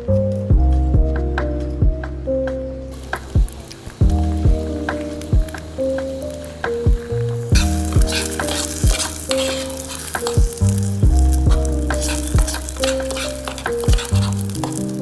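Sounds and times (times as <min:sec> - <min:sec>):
background music with keyboard and drums: 0:00.0 - 0:15.0
food sizzling in frying: 0:03.0 - 0:15.0.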